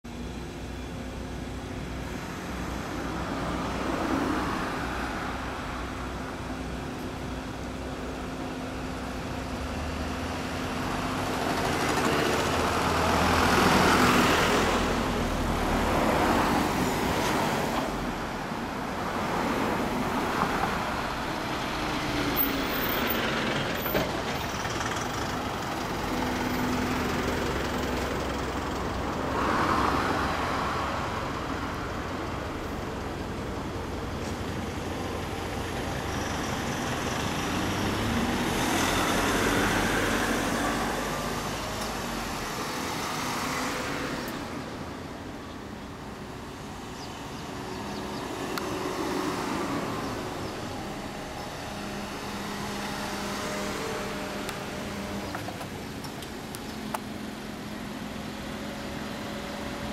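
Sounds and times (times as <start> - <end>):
car road and engine rumble: 0.0 - 59.9
passing traffic: 0.0 - 59.9.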